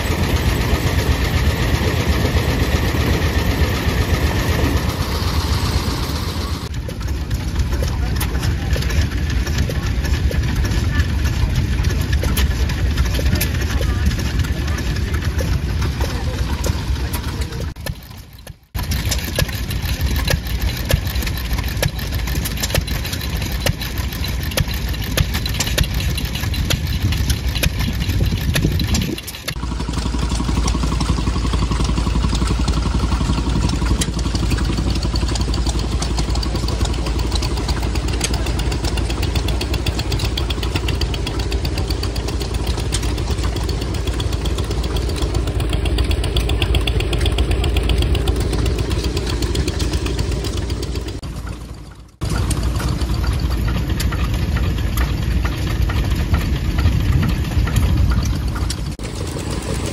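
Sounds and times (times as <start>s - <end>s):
engine low hum: 0.0s - 59.9s
stationary engines running: 0.0s - 59.9s.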